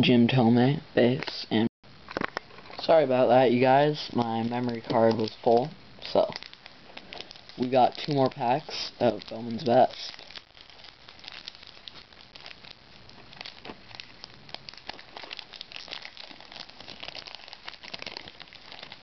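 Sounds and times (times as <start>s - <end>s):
wrapper crinkling and crackling: 2.1s - 19.0s.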